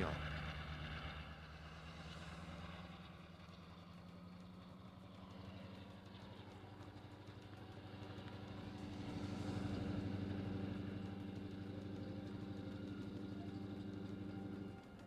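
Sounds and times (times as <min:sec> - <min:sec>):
locomotive engine throbbing drone: 0:00.0 - 0:15.0.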